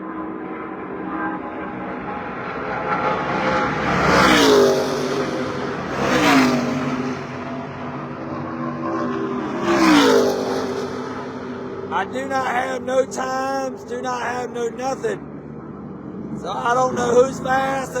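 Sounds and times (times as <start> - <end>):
race trucks passing by: 0.0 - 18.0
steady engine drone: 0.0 - 18.0.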